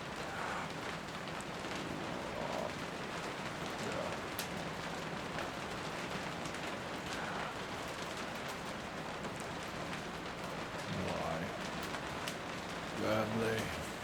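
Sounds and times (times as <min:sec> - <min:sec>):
rain drops tapping: 0:00.0 - 0:14.0.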